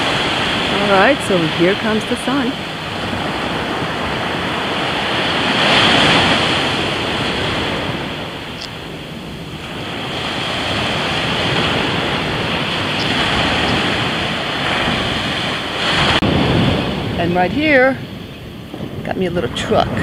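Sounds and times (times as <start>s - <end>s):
ocean surf washing onto beach: 0.0s - 20.0s
wind on microphone: 0.0s - 20.0s.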